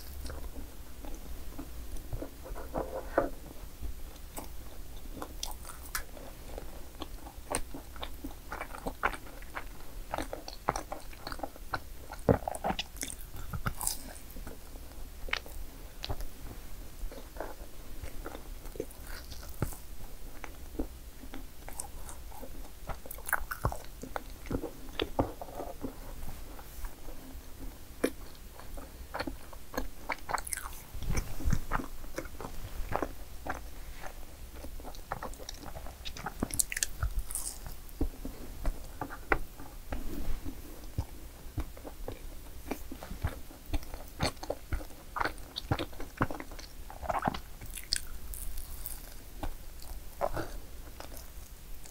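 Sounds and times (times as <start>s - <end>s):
biting and chewing cakes: 0.0s - 51.9s.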